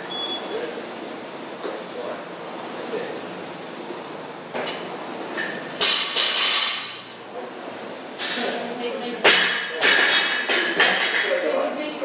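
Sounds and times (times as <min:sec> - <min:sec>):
rowing machine flywheel whirring: 0:00.0 - 0:12.0.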